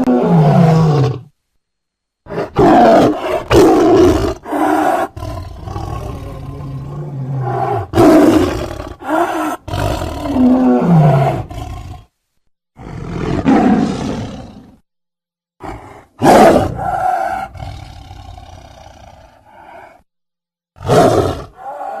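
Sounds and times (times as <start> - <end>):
tiger roaring: 0.0 - 1.3, 2.3 - 12.1, 12.8 - 14.8, 15.6 - 20.0, 20.8 - 22.0.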